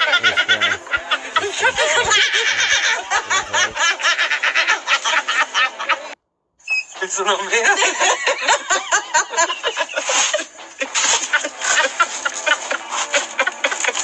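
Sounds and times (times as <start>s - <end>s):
man and woman laughing: 0.0s - 6.2s, 7.0s - 14.0s.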